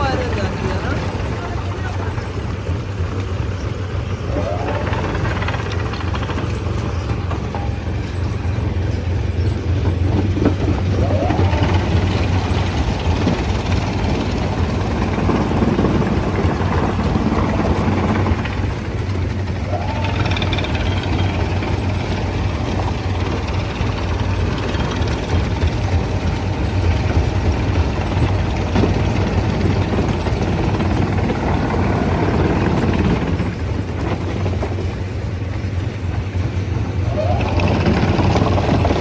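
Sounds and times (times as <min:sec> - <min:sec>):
short rising whines: 0:00.0 - 0:33.3, 0:36.9 - 0:39.0
heavy machinery engine humming: 0:00.0 - 0:39.0.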